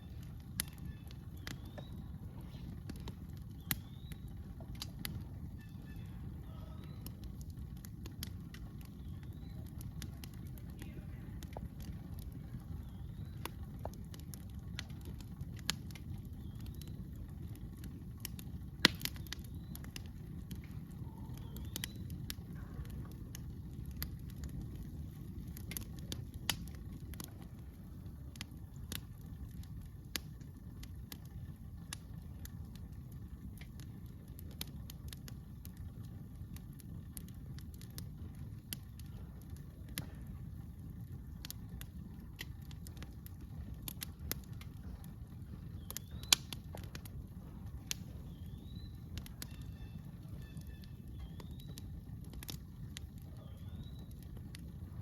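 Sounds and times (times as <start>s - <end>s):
campfire crackling and popping: 0.0s - 55.0s
low fire rumble: 0.0s - 55.0s.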